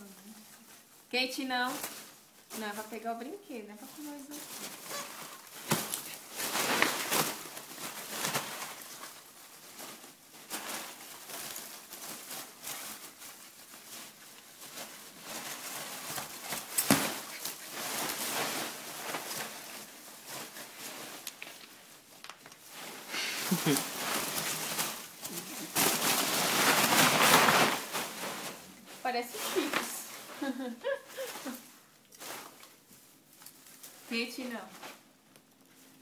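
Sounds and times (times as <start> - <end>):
packing peanuts rustling and squeaking: 0.0 - 36.0.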